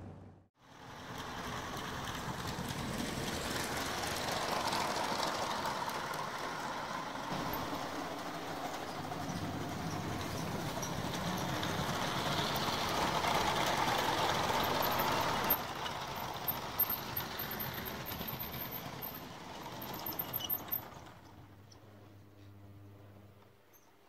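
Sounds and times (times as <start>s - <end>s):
toy train rumbling on track: 0.6s - 21.5s.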